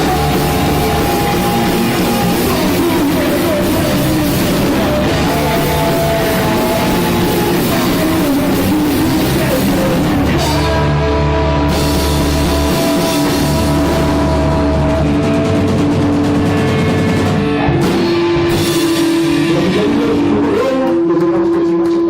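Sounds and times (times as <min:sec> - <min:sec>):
drum kit: 0:00.0 - 0:22.0
electric guitar: 0:00.0 - 0:22.0
punk rock band playing: 0:00.0 - 0:22.0.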